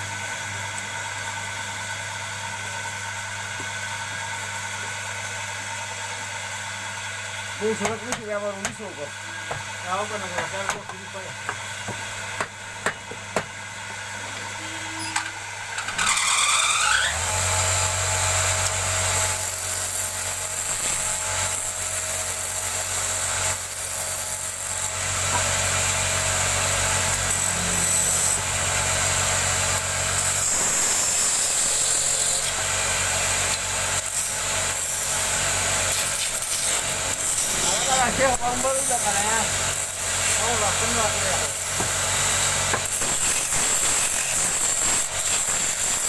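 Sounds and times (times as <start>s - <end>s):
lathe motor whining and humming: 0.1s - 46.0s
turning tool cutting wood: 7.5s - 46.0s.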